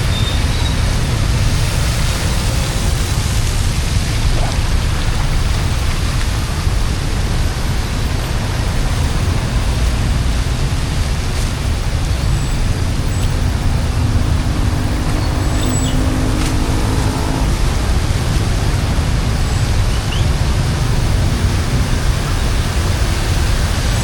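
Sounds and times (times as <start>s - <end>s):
deep rumble: 0.0s - 24.0s
heavy rain: 0.0s - 24.0s
floodwater flowing: 0.4s - 24.0s.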